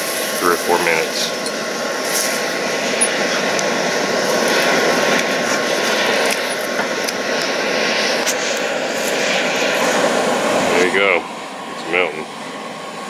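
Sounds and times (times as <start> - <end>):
charcoal fire crackling: 0.0 - 10.5
hair dryer rushing whir: 0.0 - 13.0.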